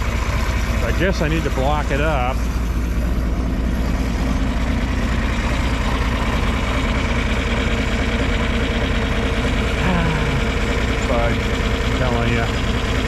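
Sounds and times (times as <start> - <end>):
motor droning: 0.0 - 13.0.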